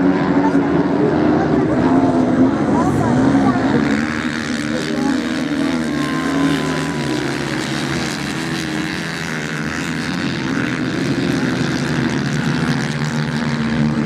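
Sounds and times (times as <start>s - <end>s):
motorcycle engines racing: 0.0s - 14.0s.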